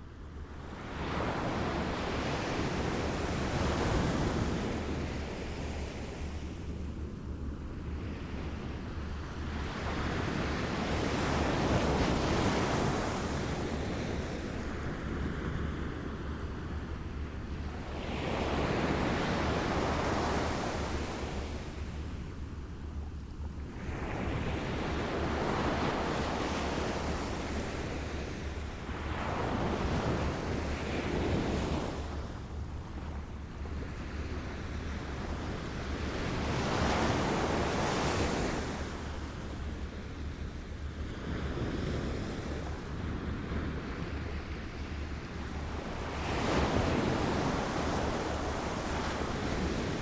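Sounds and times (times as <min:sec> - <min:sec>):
small waves lapping on a shore: 0:07.6 - 0:50.0.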